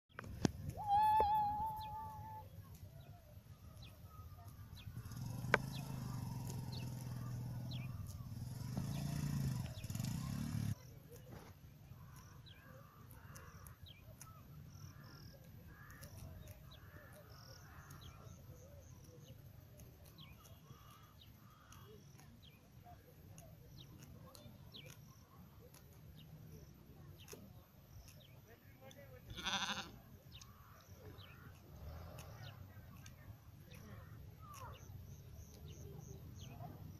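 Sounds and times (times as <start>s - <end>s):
low outdoor background: 0.1s - 36.9s
sheep cropping and chewing grass: 2.5s - 36.9s.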